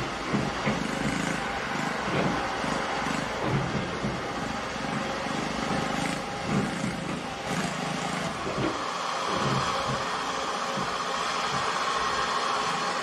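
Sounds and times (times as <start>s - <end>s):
construction site noise: 0.0s - 13.0s
excavator diesel engine: 0.0s - 13.0s.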